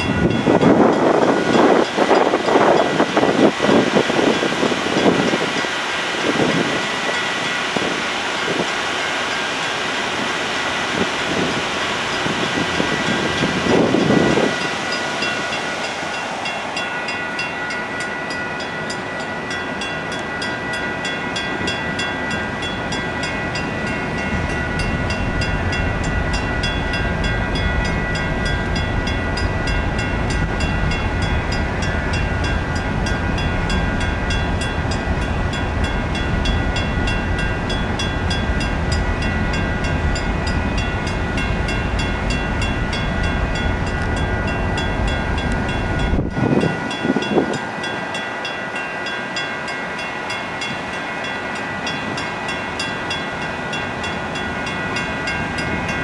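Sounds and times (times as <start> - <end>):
freight train rumbling past: 0.0 - 56.0
level-crossing warning bell: 0.0 - 56.0.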